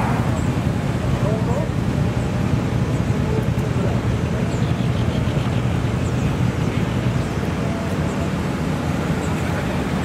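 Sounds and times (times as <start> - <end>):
engine low rumble: 0.0 - 10.0.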